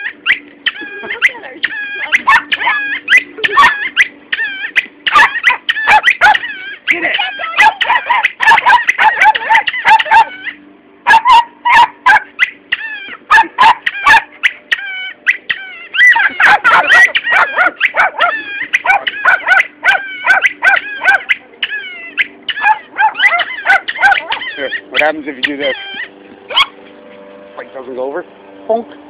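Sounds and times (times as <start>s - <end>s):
small dog barking and yipping: 0.0s - 27.0s.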